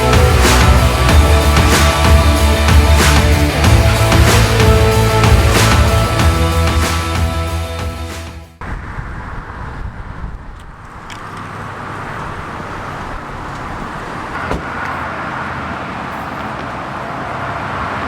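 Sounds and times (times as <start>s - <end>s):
vehicle road noise: 0.0s - 7.8s, 8.6s - 18.0s.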